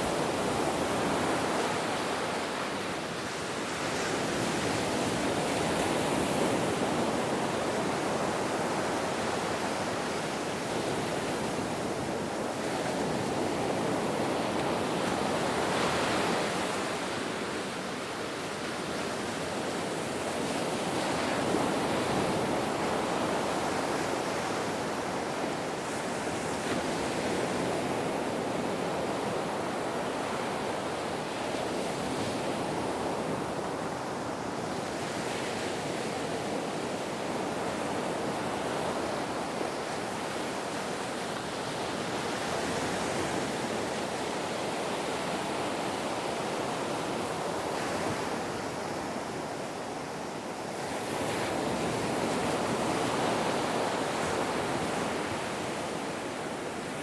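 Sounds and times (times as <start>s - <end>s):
ocean waves on shore: 0.0s - 57.0s.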